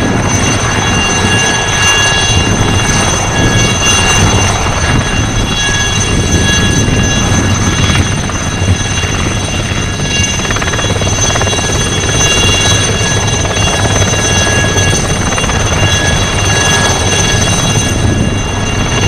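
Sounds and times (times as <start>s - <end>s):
helicopter turbine whine: 0.0s - 19.0s.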